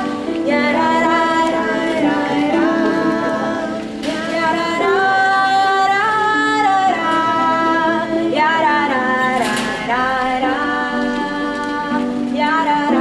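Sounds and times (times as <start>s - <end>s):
singing in long held notes: 0.0s - 13.0s.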